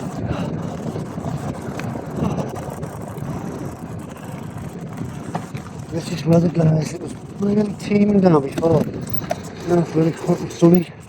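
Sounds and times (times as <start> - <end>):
bicycle tyres rolling rumble: 0.0 - 11.0
wind rushing over microphone: 0.0 - 11.0.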